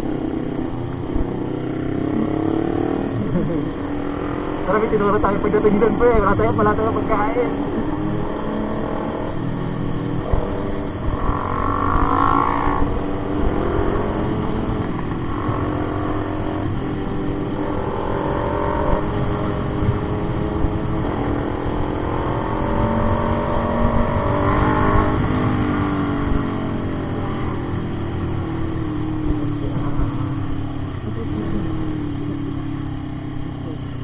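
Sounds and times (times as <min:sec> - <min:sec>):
motorcycle engine accelerating: 0:00.0 - 0:34.0
wind and road noise: 0:00.0 - 0:34.0.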